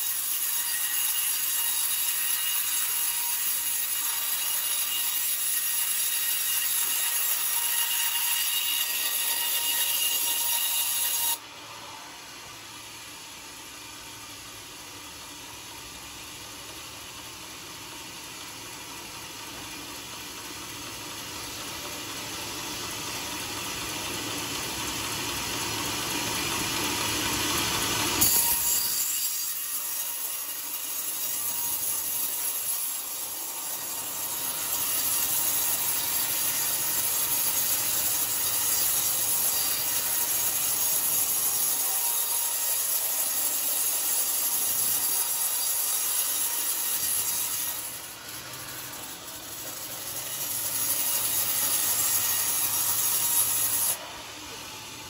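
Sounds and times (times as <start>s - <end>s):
band saw cutting log: 0.0s - 11.4s, 19.8s - 55.0s.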